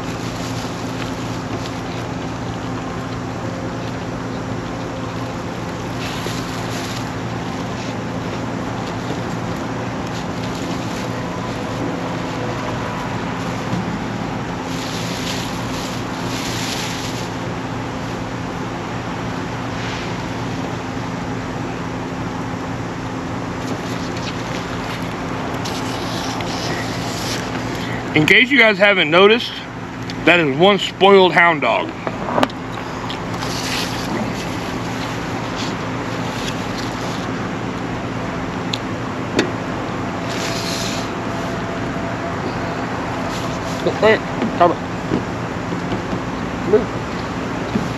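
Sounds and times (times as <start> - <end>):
car engine droning: 0.0 - 47.9
road and wind noise hiss: 0.0 - 47.9.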